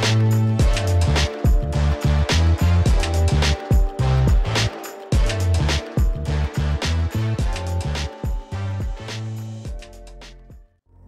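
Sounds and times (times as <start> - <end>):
music with heavy bass line: 0.0 - 10.6.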